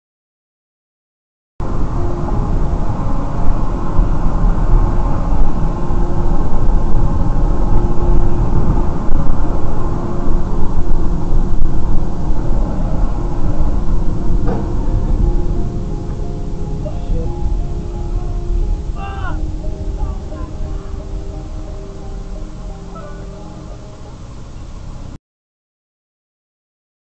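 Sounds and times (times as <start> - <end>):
car road and engine rumble: 1.6 - 25.2
faint steady hum: 1.6 - 25.2.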